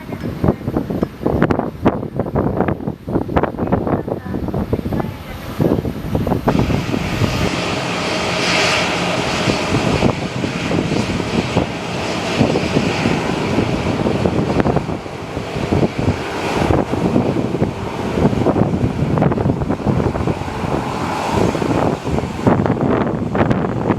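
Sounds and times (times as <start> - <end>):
jet engines running: 0.0 - 23.9
wind buffeting microphone: 0.0 - 23.9.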